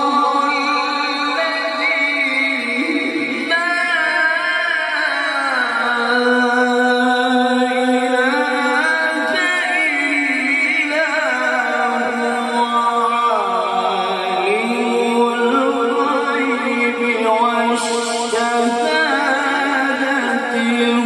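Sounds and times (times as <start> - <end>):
man reciting melodically: 0.0 - 21.0.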